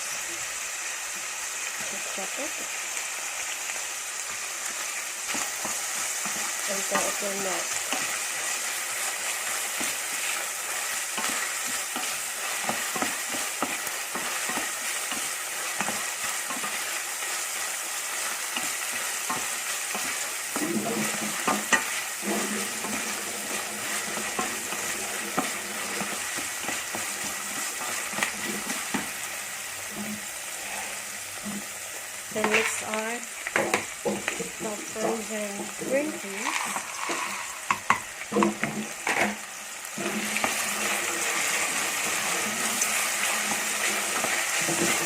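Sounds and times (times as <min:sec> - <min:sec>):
food sizzling in a frying pan: 0:00.0 - 0:45.0.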